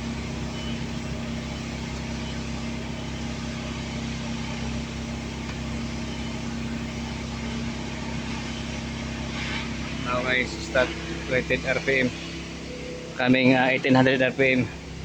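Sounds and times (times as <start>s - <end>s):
diesel generator engine idling: 0.0s - 15.0s.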